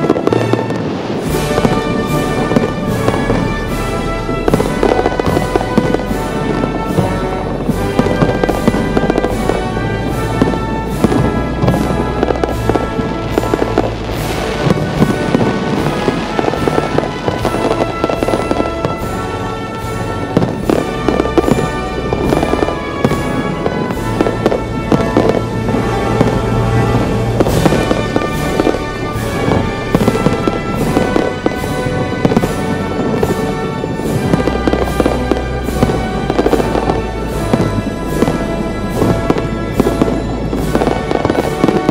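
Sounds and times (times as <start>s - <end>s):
fireworks bursting and crackling: 0.0s - 41.9s
music playing: 0.0s - 41.9s.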